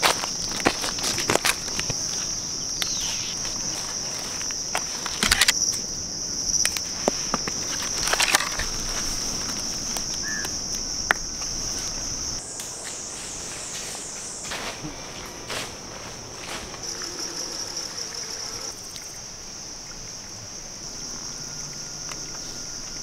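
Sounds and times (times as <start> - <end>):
dry leaves and twigs crackling: 0.0 - 18.7
insects droning: 0.0 - 23.0.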